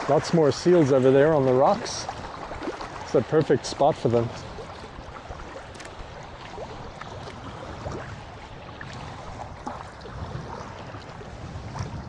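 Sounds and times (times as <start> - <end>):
paddle splashing and dripping: 0.0 - 12.0.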